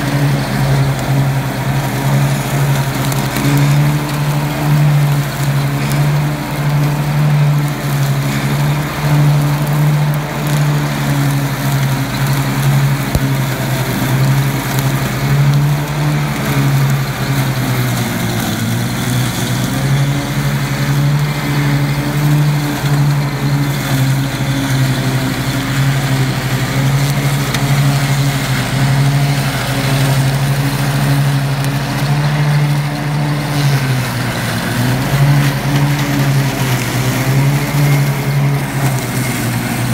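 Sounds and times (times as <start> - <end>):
lawn tractor engine running: 0.0 - 39.9
mower deck cutting brambles: 0.0 - 39.9.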